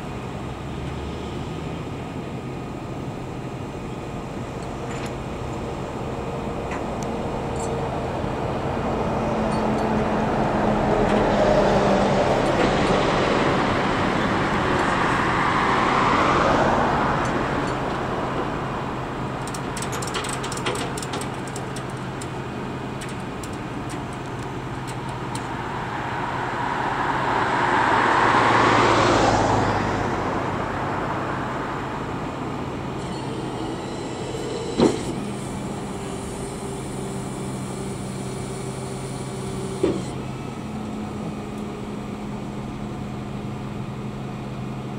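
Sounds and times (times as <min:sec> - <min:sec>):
vehicles passing by: 0:00.0 - 0:44.9.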